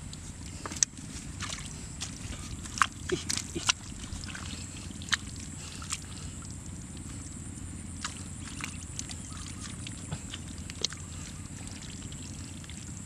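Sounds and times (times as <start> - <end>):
hands squelching in wet mud: 0.0 - 13.0
sharp wet splats: 0.6 - 7.2, 7.9 - 12.8.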